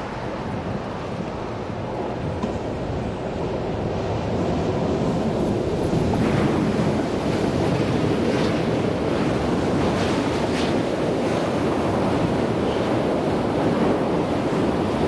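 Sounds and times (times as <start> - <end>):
train rattling: 0.0 - 15.0
train wheels rumbling on rails: 0.0 - 15.0
wind buffeting microphone: 0.0 - 15.0.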